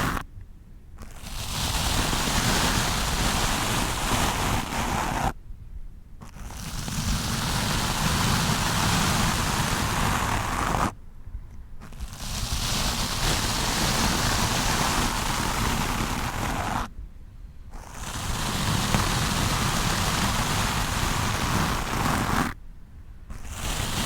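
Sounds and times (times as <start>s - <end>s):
brush scrubbing across microphone: 0.0s - 0.2s, 1.0s - 5.4s, 6.2s - 11.0s, 11.8s - 16.9s, 17.7s - 22.6s, 23.3s - 24.0s.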